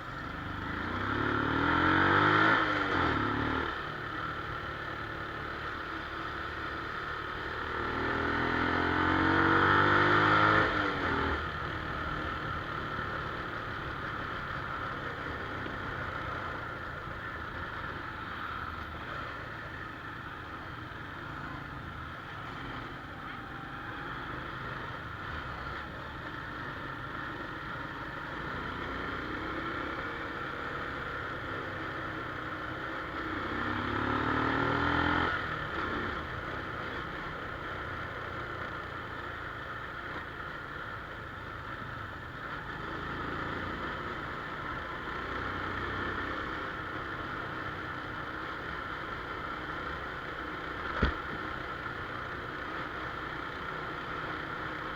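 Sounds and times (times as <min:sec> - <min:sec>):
motorcycle engine revving: 0:00.1 - 0:20.6, 0:21.3 - 0:37.8, 0:42.7 - 0:54.9.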